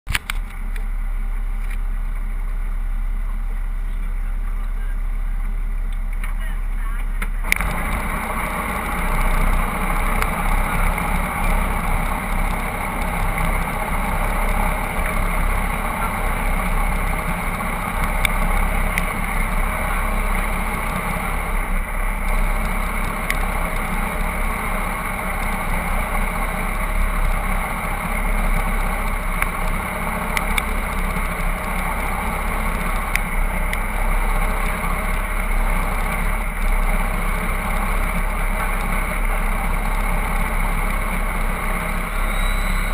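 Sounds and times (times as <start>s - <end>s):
boat diesel engines running: 0.2s - 42.9s.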